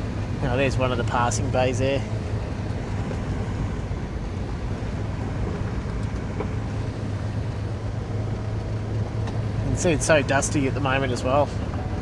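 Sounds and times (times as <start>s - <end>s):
low engine hum: 0.0s - 12.0s
tyres on dirt road: 0.0s - 12.0s.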